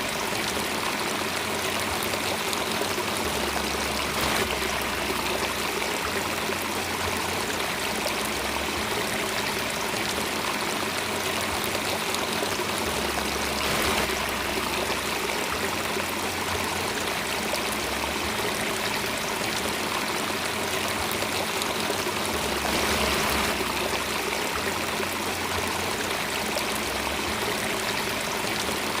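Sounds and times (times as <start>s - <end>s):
stream babbling: 0.0s - 29.0s.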